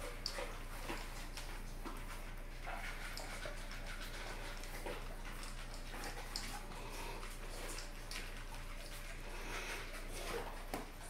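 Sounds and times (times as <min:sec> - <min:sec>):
puppy crunching kibble: 0:00.0 - 0:11.0.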